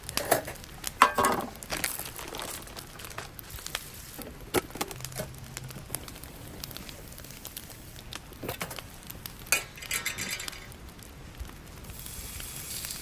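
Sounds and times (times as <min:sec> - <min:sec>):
crinkling and rustling handling: 0:00.0 - 0:11.9.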